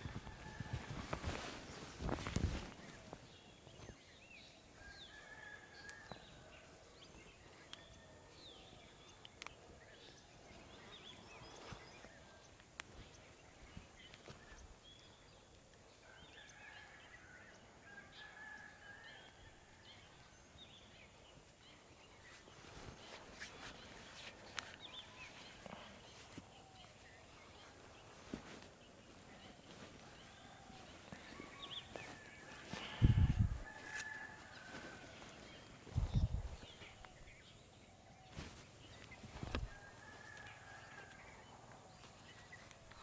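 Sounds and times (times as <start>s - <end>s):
birds chirping faintly: 0.0s - 43.0s.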